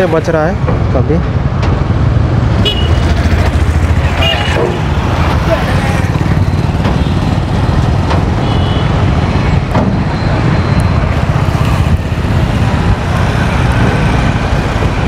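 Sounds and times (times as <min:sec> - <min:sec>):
engine and traffic rumble: 0:00.0 - 0:15.0.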